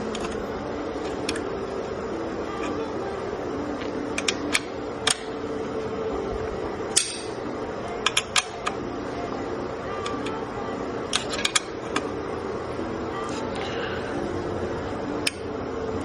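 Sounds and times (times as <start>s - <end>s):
faint background music: 0.0s - 16.0s.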